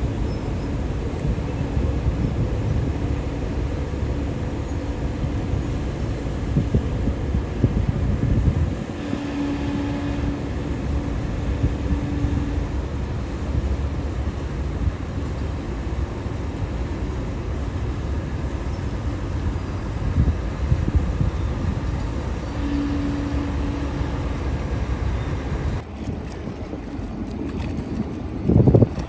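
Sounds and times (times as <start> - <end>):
ferry engine rumbling: 0.0 - 29.0.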